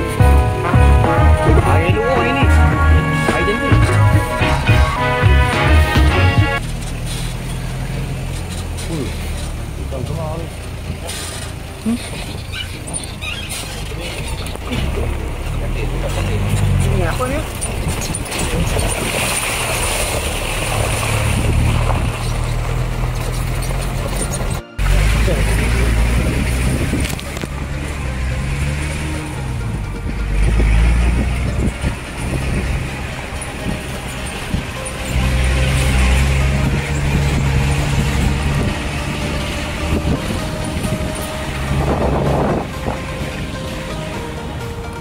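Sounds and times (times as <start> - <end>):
road noise: 0.0 - 45.0
tyres on gravel: 0.0 - 45.0
vehicle engine hum: 0.0 - 45.0.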